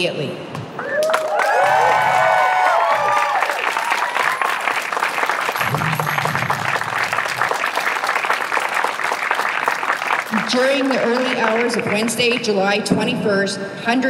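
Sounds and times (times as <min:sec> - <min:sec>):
crowd cheering and applauding: 0:00.8 - 0:12.4.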